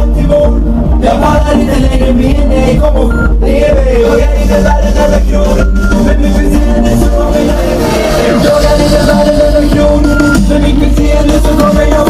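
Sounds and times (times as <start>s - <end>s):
loud music with deep bass: 0.0s - 12.0s.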